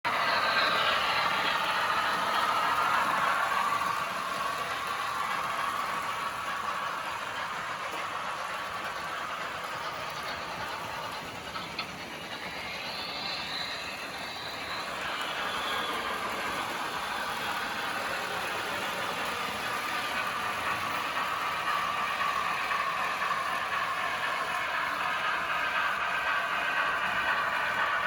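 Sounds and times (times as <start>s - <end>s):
model train running on track: 0.0s - 28.0s.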